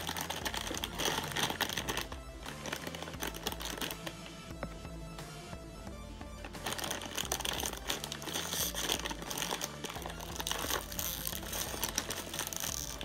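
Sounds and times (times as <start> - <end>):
plastic packaging crinkling: 0.0 - 4.3, 6.4 - 13.0
background music: 0.0 - 13.0.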